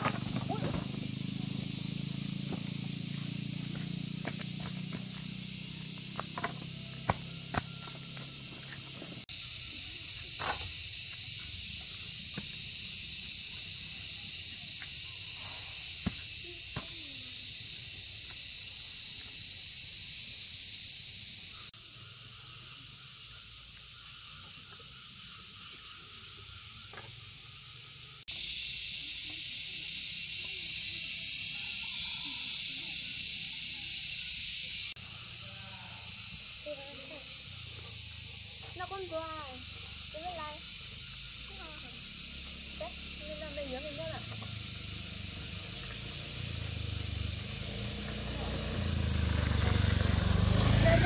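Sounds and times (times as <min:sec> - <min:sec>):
insects droning: 0:00.0 - 0:51.0.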